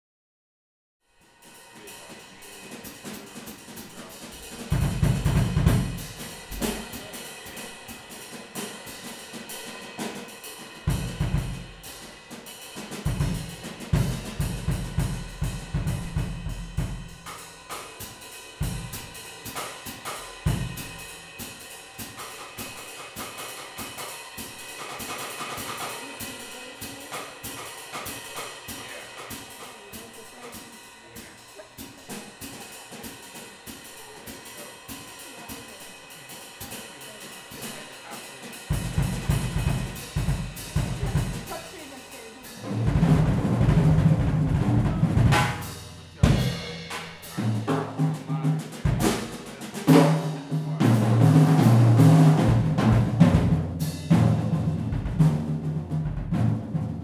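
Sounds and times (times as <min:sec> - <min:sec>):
cymbals and hi-hat: 0:01.1 - 0:57.0
drum kit playing: 0:01.2 - 0:57.0.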